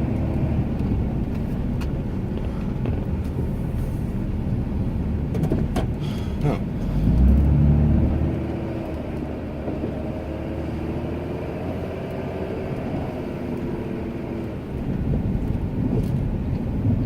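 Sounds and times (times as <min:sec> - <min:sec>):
pickup truck engine rumbling: 0:00.0 - 0:17.0.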